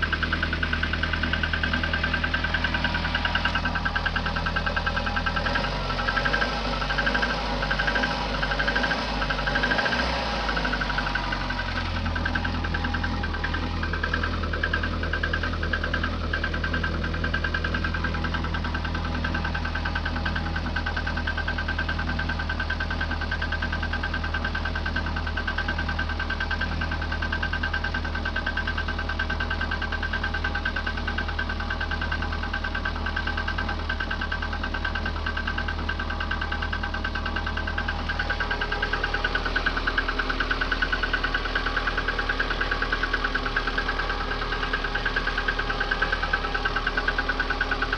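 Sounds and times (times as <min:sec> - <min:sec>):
car engine knocking: 0:00.0 - 0:47.9.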